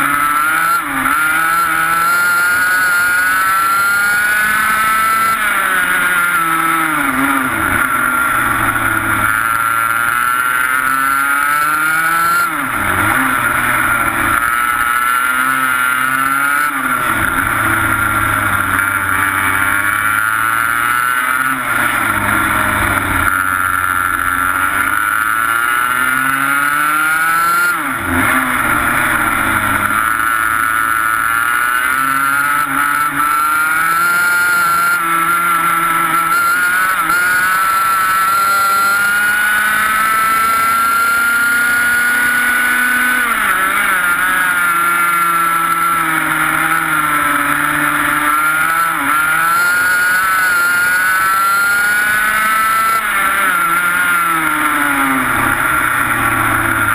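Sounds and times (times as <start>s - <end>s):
kart engine revving: 0.0s - 56.9s.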